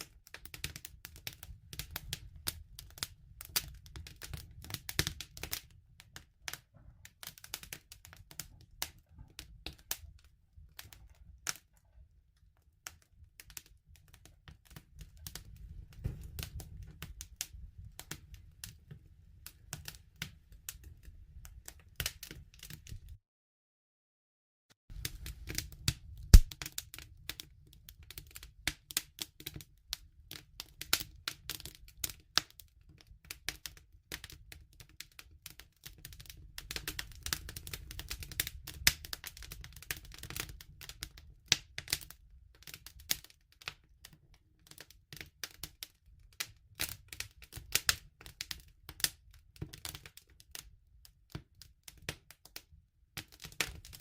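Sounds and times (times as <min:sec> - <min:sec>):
wood fire crackling: 0:00.0 - 0:23.2, 0:24.9 - 0:46.1, 0:46.8 - 0:50.7, 0:53.2 - 0:54.0.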